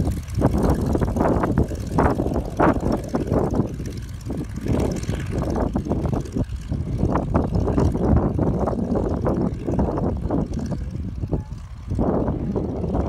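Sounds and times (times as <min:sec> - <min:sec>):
propeller plane engine running: 0:00.0 - 0:13.0.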